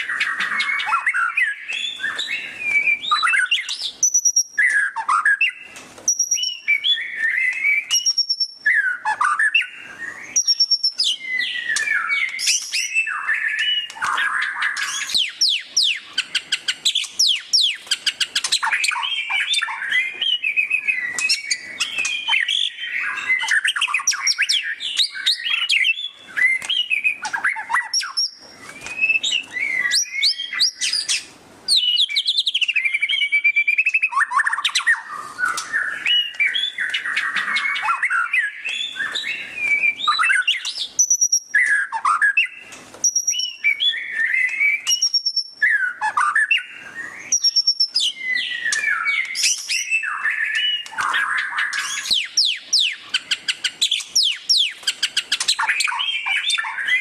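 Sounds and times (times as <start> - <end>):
bird singing chattering notes: 0.0 - 57.0.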